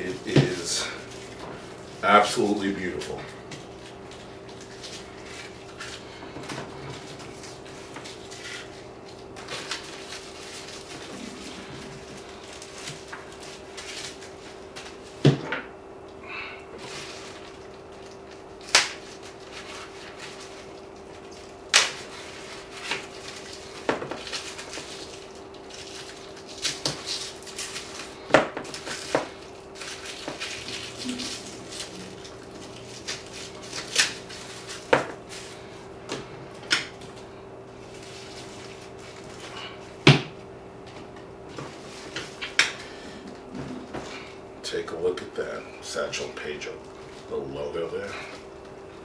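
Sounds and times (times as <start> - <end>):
wrapping rustling: 0.0 - 15.2, 16.8 - 49.0
faint steady hum: 0.0 - 49.0.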